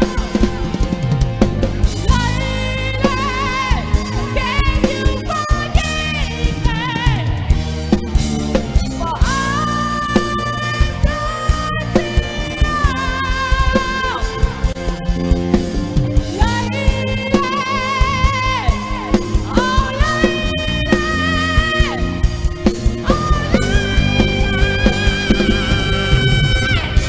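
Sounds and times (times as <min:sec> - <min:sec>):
pop ballad over loudspeakers: 0:00.0 - 0:27.0.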